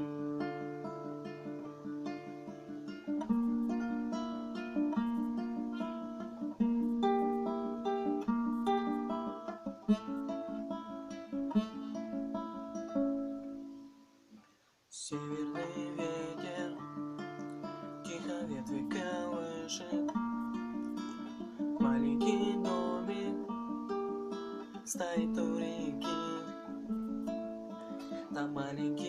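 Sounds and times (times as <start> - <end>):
acoustic guitar playing: 0.0 - 29.0.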